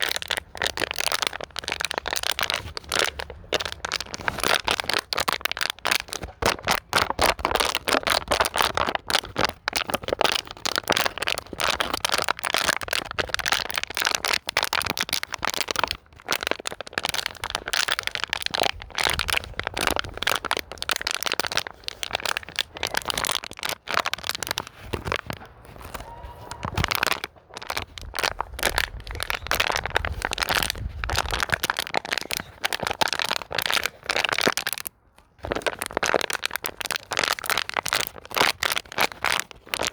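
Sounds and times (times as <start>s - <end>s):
plastic bottle crinkling: 0.0s - 39.9s.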